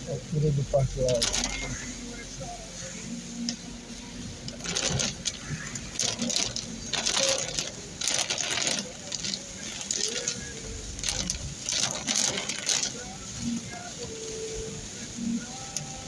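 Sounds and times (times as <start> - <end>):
heavy rain: 0.0 - 16.0
windscreen wipers swishing: 0.0 - 16.0.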